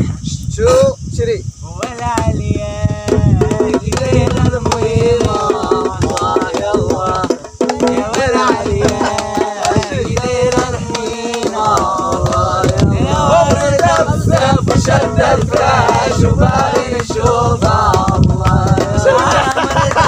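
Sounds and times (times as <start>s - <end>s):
young men singing chant-like song: 1.7s - 20.0s
hands clapping rhythm: 3.1s - 20.0s.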